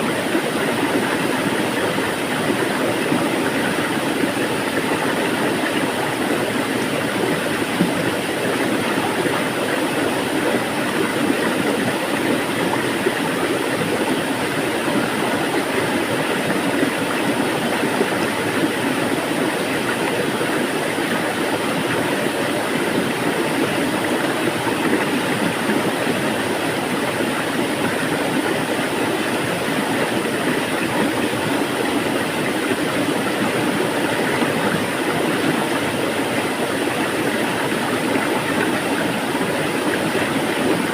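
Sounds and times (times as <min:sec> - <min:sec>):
water flowing: 0:00.0 - 0:40.9.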